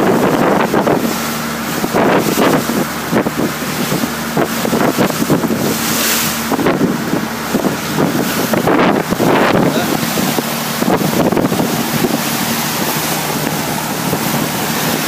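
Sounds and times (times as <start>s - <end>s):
boat engine hum: 0.0s - 15.0s
water splashing along hull: 0.0s - 15.0s
wind buffeting microphone: 0.0s - 15.0s.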